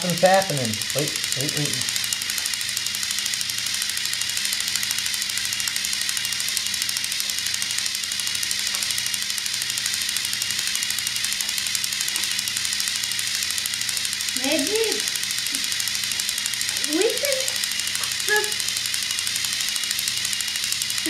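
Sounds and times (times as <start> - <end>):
toy train motors straining: 0.0 - 21.0.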